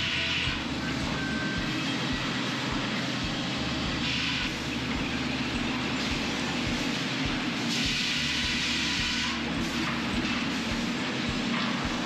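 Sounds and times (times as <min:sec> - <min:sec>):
sawmill machinery humming and clattering: 0:00.0 - 0:12.0.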